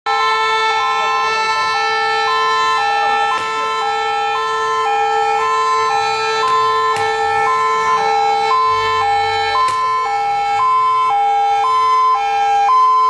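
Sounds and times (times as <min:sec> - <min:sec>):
fire engine siren wailing: 0:00.1 - 0:13.0
steady held siren tone: 0:00.1 - 0:13.0.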